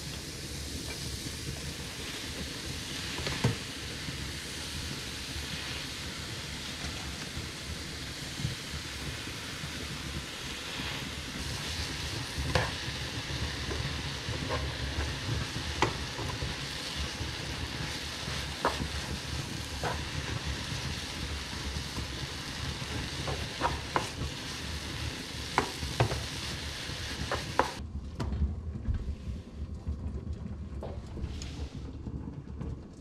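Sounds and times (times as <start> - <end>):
vegetables sizzling in a frying pan: 0.0 - 27.8.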